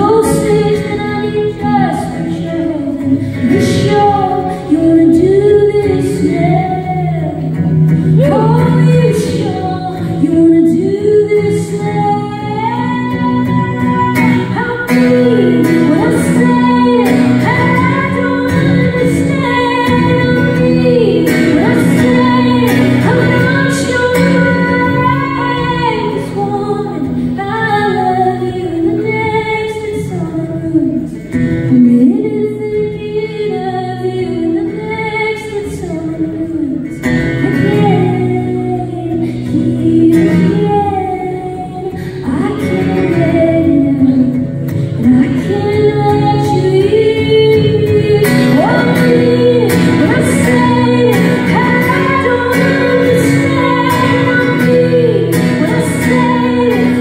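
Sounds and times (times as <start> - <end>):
acoustic guitar: 0.0 - 57.0
woman singing: 0.0 - 57.0.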